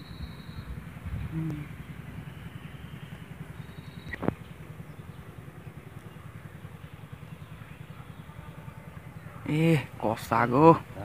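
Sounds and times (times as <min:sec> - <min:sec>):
engine puttering: 0:00.0 - 0:11.0.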